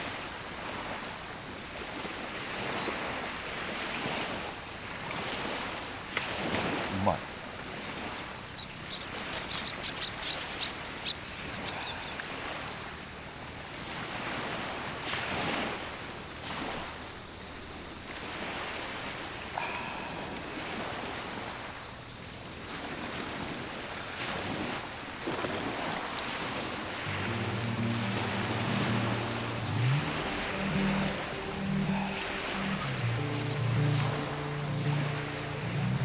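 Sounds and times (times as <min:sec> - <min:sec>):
sea waves washing on shore: 0:00.0 - 0:36.0.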